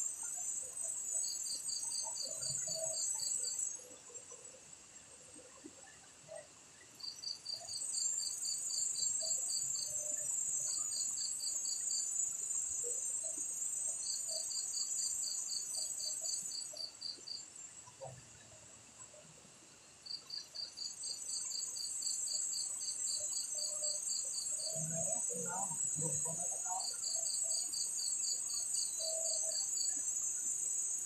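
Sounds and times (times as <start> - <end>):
insect high continuous trill: 0.0 - 31.0.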